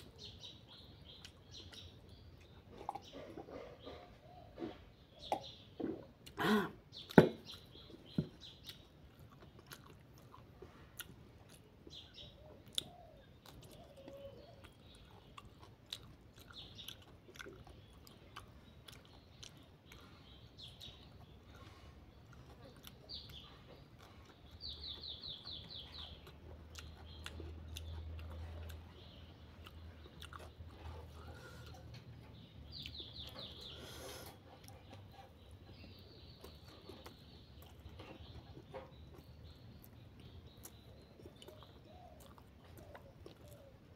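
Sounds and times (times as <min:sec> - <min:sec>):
birds chirping: 0:00.0 - 0:43.9
close chewing: 0:00.0 - 0:43.9.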